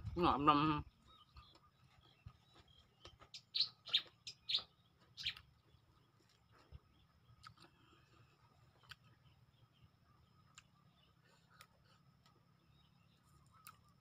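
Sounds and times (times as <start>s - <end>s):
person chewing food: 1.4s - 4.2s, 4.9s - 9.6s, 10.3s - 14.0s.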